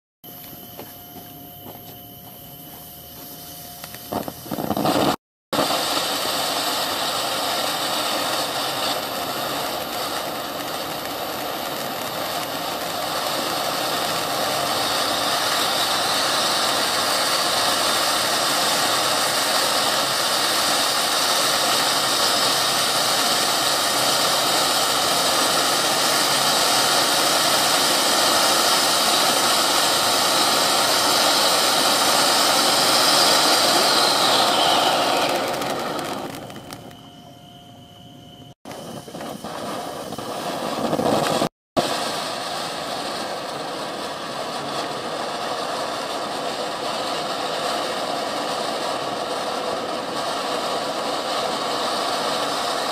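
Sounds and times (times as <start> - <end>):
firework fountain hissing sparks: 0.3 - 52.9.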